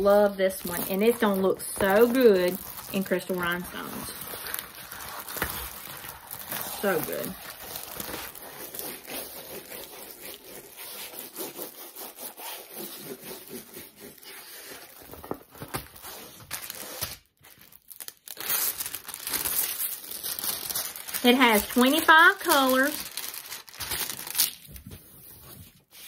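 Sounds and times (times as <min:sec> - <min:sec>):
paper and canvas crinkling: 0:00.0 - 0:26.0.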